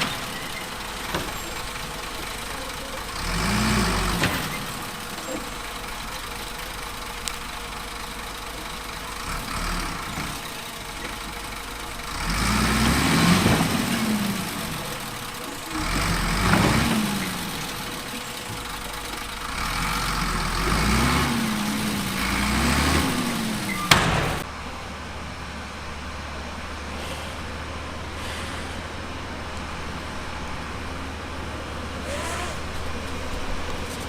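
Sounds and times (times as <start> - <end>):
heavy machinery diesel engine revving: 0.0 - 34.0.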